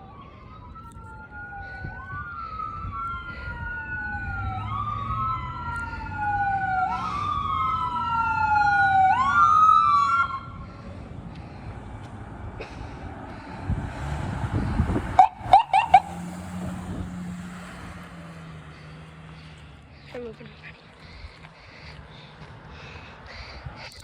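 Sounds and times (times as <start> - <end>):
ambulance siren wailing: 0.0 - 19.4
vehicle rumble: 0.0 - 24.0.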